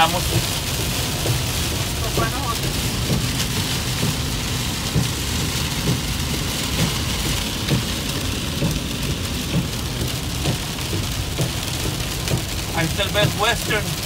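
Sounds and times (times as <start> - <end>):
engine and road noise: 0.0 - 14.0
heavy rain on vehicle: 0.0 - 14.0.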